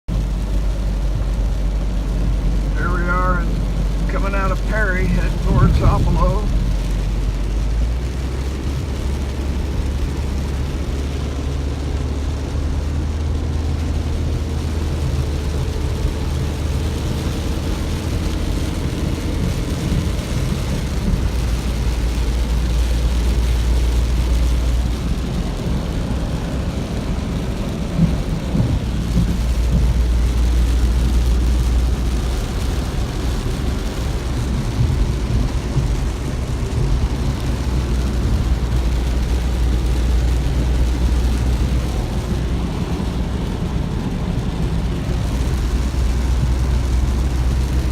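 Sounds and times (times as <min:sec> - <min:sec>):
vehicle road and engine rumble: 0:00.0 - 0:47.9.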